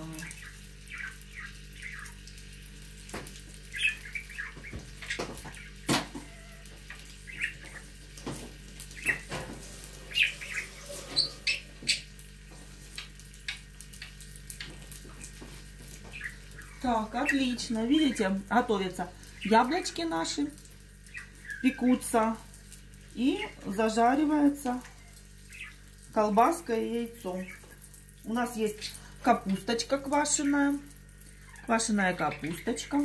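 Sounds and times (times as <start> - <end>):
birds chirping: 0.0 - 2.4, 3.6 - 12.2, 13.0 - 22.6, 23.2 - 33.0
food sizzling on a grill: 0.0 - 33.0.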